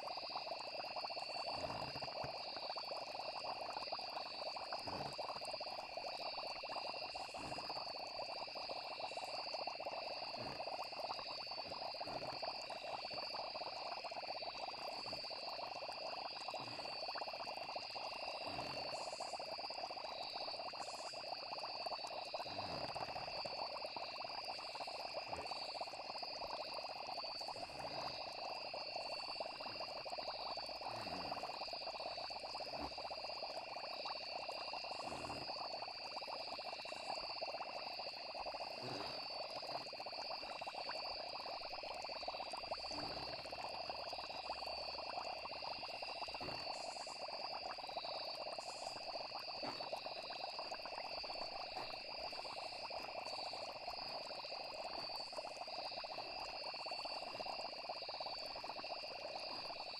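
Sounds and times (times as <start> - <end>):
frog chorus: 0.0 - 59.9
high insect trills: 0.0 - 59.9.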